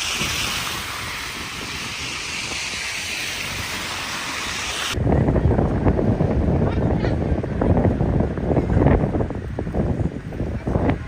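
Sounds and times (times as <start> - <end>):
blizzard wind hissing: 0.0 - 11.0
wind buffeting microphone: 0.0 - 11.0.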